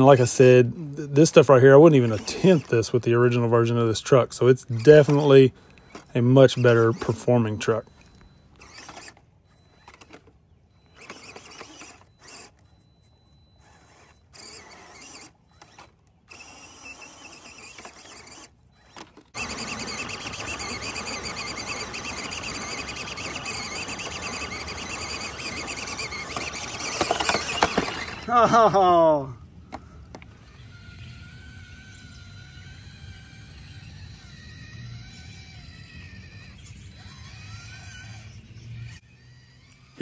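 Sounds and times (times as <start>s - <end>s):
toy truck motor whining: 0.0s - 40.0s.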